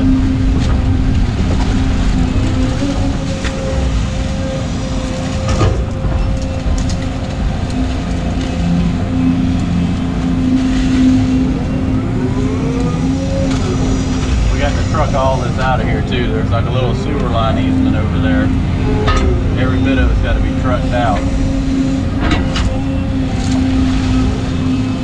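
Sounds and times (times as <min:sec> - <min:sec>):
diesel excavator engine running: 0:00.0 - 0:25.0
hydraulic whine: 0:00.0 - 0:25.0.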